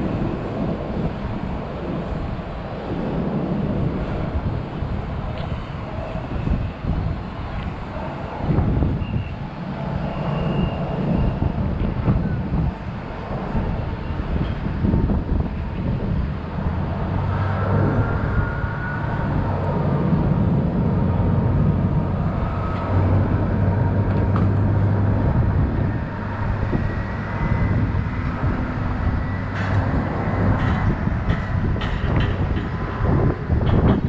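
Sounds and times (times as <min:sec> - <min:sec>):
constant thin whine: 0:00.0 - 0:34.0
low rumble of aircraft: 0:00.0 - 0:34.0.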